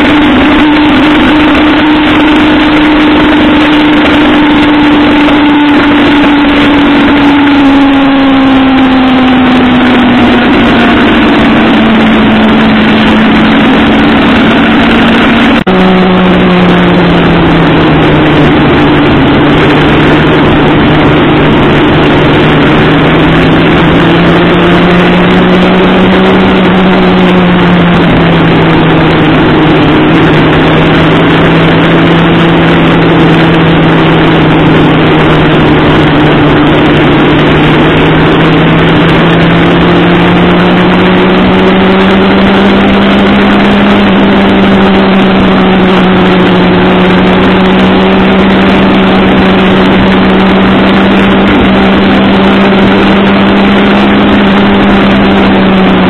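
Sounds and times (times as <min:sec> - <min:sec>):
motorcycle engine cruising: 0:00.0 - 0:56.0
wind rushing: 0:00.0 - 0:56.0.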